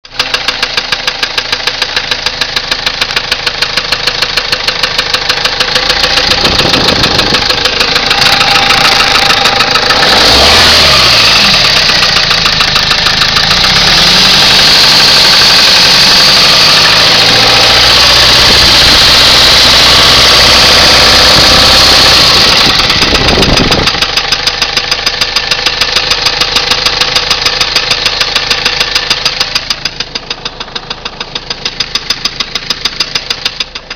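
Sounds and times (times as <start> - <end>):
diesel engine idling with rattle: 0.0 - 33.9
engine revving: 0.2 - 33.9.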